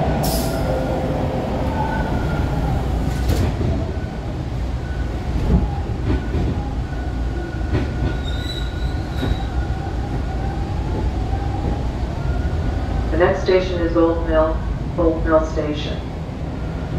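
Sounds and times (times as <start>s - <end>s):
subway train accelerating: 0.0s - 16.9s.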